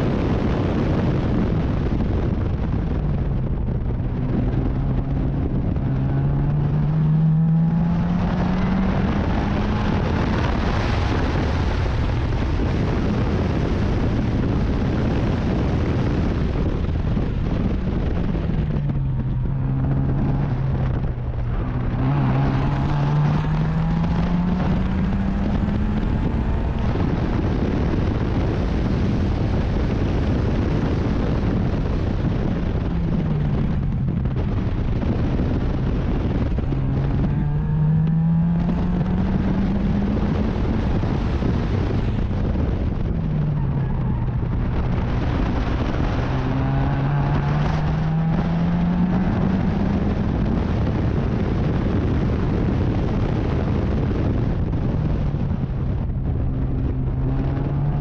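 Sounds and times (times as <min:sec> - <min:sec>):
wind and road noise: 0:00.0 - 0:58.0
racing car engine accelerating: 0:00.2 - 0:58.0.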